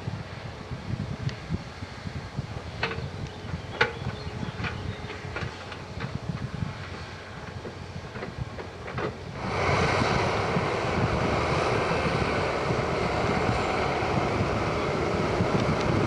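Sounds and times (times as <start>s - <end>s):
excavator diesel engine and hydraulics: 0.0s - 16.0s.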